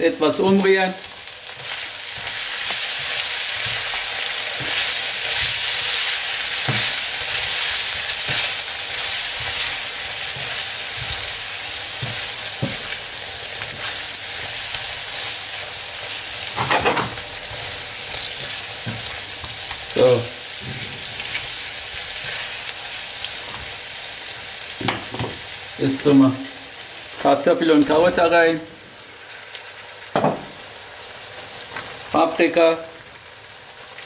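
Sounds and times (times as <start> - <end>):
meatballs sizzling in frying pan: 0.0 - 34.0.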